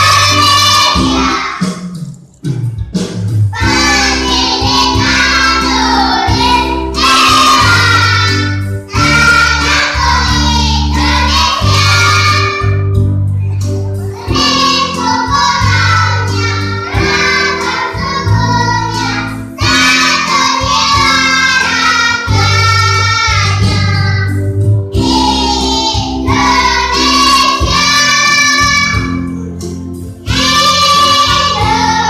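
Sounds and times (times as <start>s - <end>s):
children's choir singing: 0.0s - 1.8s, 3.6s - 13.1s, 14.0s - 29.6s, 30.2s - 32.0s.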